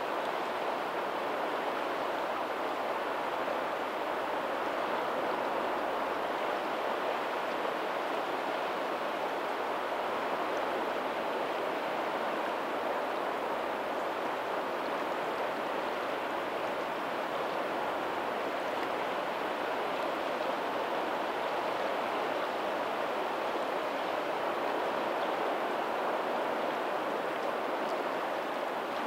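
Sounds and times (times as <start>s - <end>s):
water rushing: 0.0s - 29.0s.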